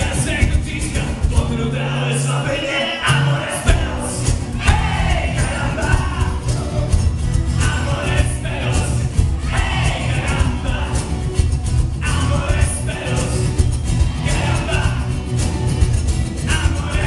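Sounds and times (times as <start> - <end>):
man singing lead vocal: 0.0 - 11.4, 12.0 - 15.4, 16.4 - 17.0
drums: 0.0 - 17.0
low bass notes: 0.0 - 17.0
strummed acoustic guitar: 0.0 - 17.0.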